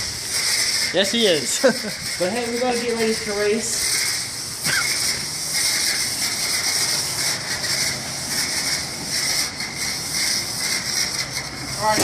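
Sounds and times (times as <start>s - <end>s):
water spray hissing: 0.0s - 12.0s.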